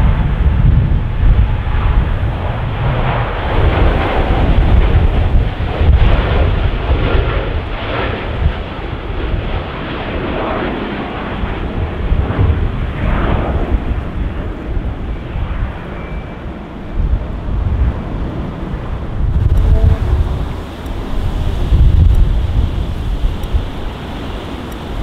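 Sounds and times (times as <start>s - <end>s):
jet engines rumbling: 0.0s - 25.0s
wind buffeting microphone: 0.0s - 25.0s.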